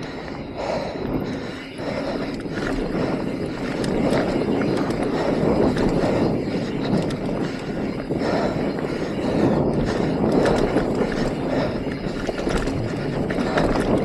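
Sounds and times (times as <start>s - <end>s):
bike clicks and rattles: 0.0s - 14.0s
bike tyres rushing over dirt: 0.0s - 14.0s
wind on microphone: 0.0s - 14.0s.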